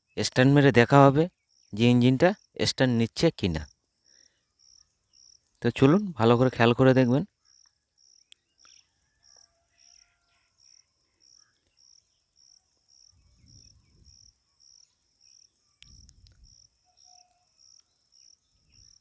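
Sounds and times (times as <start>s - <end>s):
cricket chirping: 1.2s - 2.9s, 3.5s - 6.0s, 7.4s - 19.0s.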